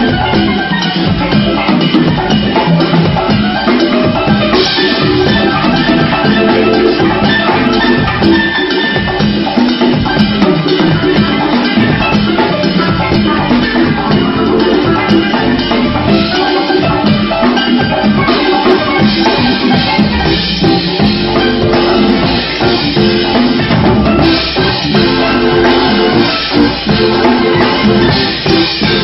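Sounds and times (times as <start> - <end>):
drum kit playing: 0.0 - 29.0
live band music: 0.0 - 29.0.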